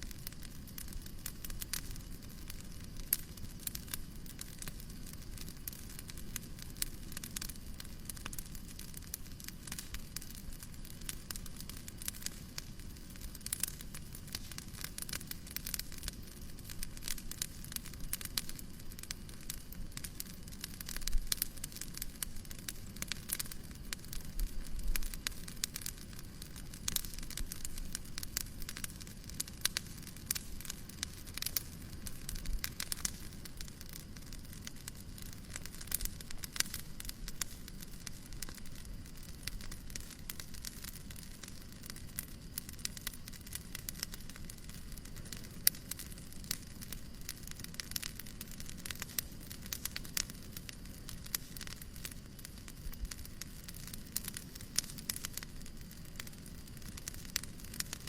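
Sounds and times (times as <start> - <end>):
wood fire crackling in fireplace: 0.0 - 58.0.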